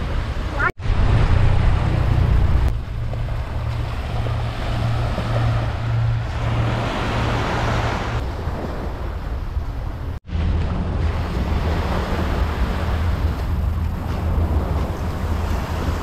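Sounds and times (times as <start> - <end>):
sea waves washing ashore: 0.0 - 16.0
wind rumbling on microphone: 0.0 - 16.0.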